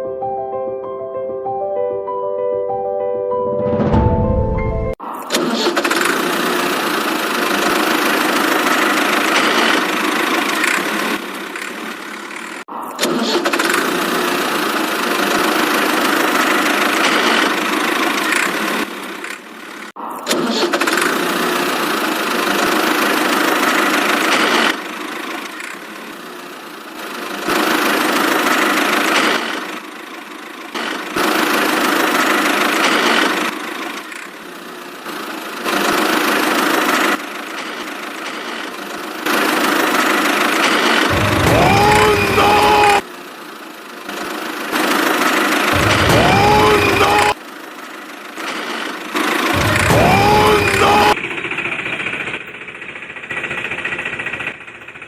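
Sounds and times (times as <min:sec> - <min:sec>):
engine running: 0:05.0 - 0:55.0.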